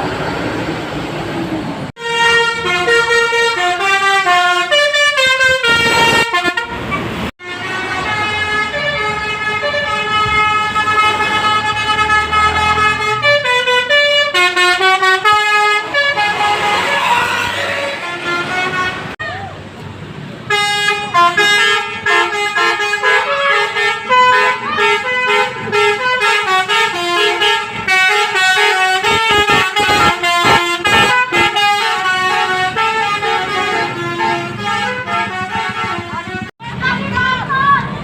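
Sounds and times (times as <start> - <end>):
street noise: 0.0 - 38.0
bus horn playing a tune: 1.9 - 19.2, 20.4 - 37.3.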